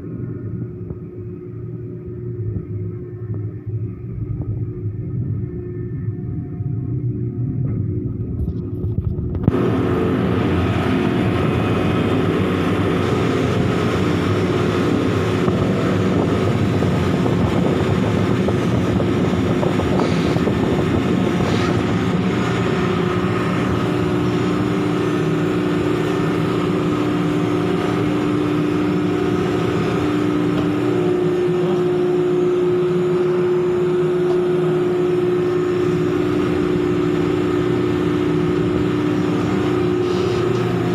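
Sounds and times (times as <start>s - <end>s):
heavy machinery droning: 0.0s - 40.9s
second machinery hum: 0.0s - 40.9s.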